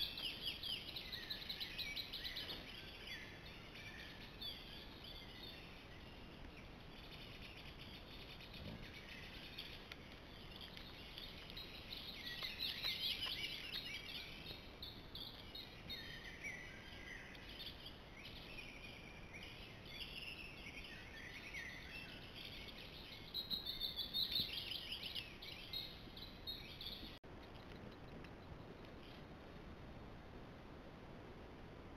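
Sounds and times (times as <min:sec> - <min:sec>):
songbirds singing: 0:00.0 - 0:27.2.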